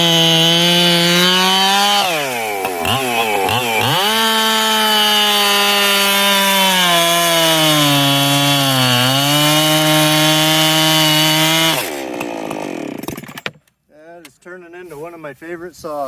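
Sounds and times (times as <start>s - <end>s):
chainsaw revving: 0.0s - 13.6s.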